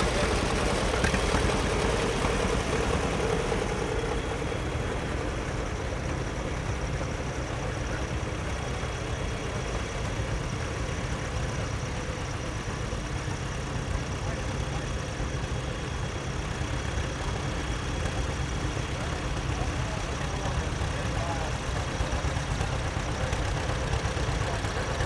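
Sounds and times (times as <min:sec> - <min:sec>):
tractor engines droning: 0:00.0 - 0:25.0.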